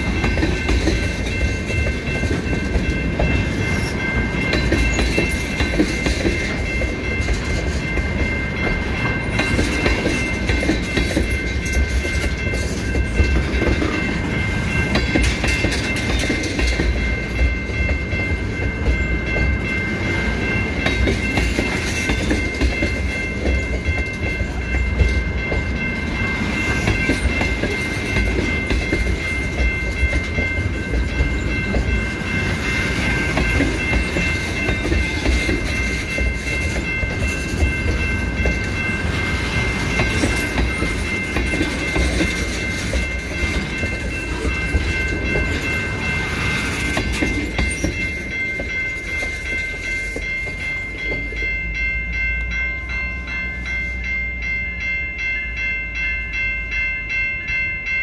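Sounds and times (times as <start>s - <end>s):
clickety-clack over rail joints: 0.0s - 54.0s
train wheels rumbling: 0.0s - 58.0s.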